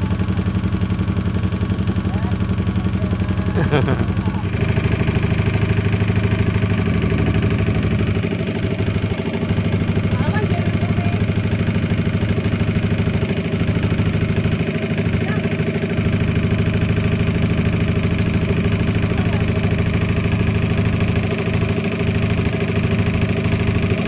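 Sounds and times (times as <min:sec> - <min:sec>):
motorboat engine chugging: 0:00.0 - 0:24.0.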